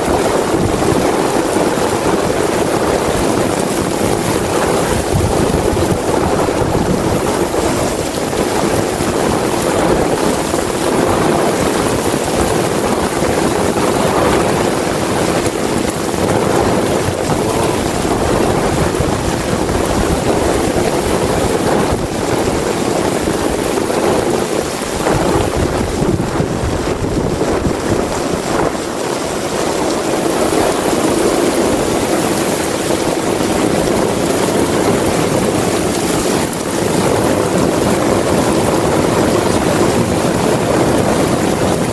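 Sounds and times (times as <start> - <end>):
heavy rain falling: 0.0 - 41.9
low rumble of wind: 0.0 - 41.9.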